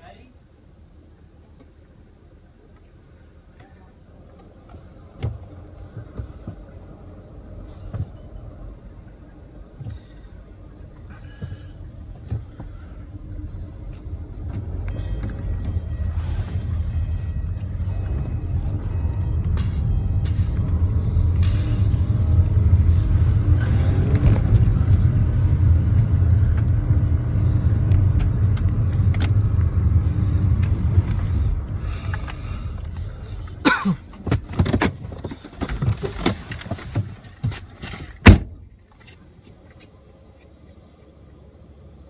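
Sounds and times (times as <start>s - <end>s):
car cabin low rumble: 0.0s - 42.0s.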